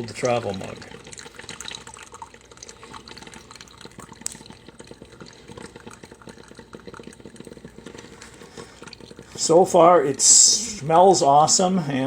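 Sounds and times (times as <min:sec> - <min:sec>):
coffee dripping into a mug: 0:00.0 - 0:11.4.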